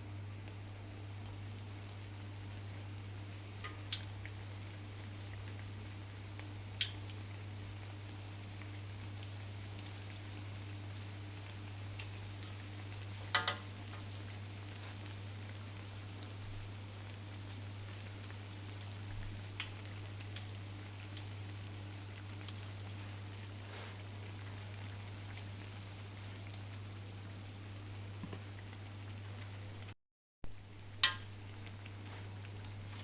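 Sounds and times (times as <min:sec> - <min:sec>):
dough deep-frying in oil: 0:00.0 - 0:33.0.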